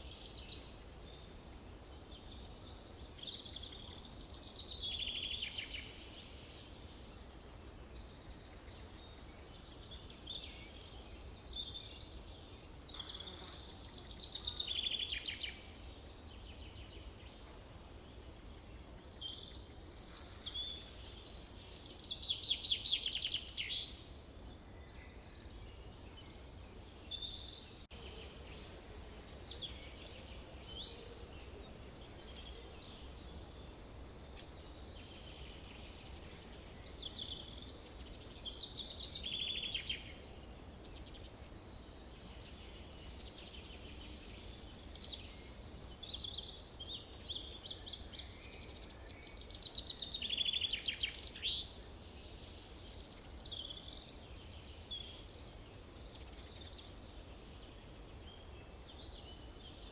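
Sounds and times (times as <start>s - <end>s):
forest birds singing: 0.0s - 59.9s.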